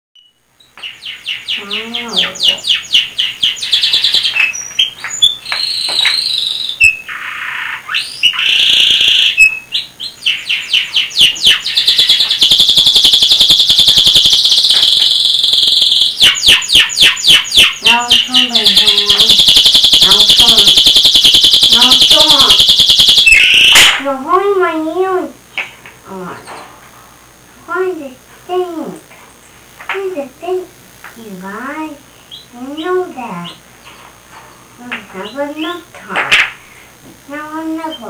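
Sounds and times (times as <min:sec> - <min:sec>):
canary singing trills: 0:00.2 - 0:25.7, 0:27.3 - 0:38.0.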